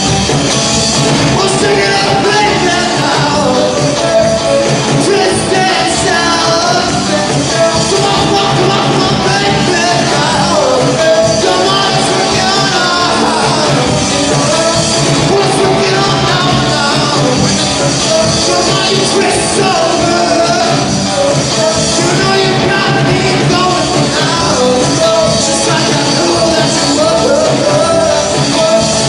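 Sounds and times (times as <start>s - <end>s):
drum kit: 0.0s - 29.0s
electric guitar: 0.0s - 29.0s
keyboard: 0.0s - 29.0s
person singing lead vocal: 1.1s - 29.0s.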